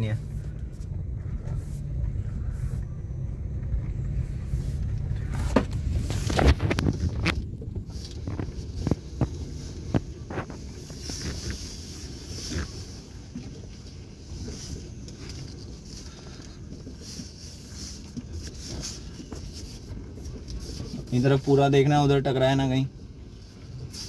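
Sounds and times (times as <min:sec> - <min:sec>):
car engine running low: 0:00.0 - 0:24.0.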